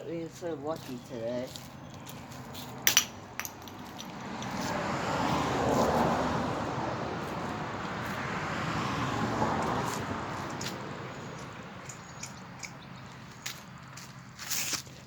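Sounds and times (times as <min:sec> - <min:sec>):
road vehicle passing by: 0:00.0 - 0:15.0.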